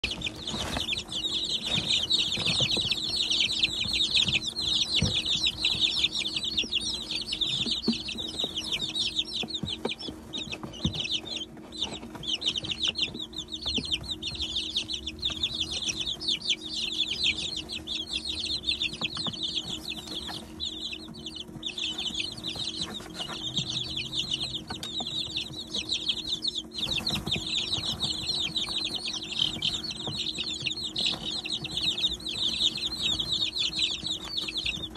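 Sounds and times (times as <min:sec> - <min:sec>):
chicks peeping: 0:00.0 - 0:34.9
steady low hum: 0:00.0 - 0:34.9.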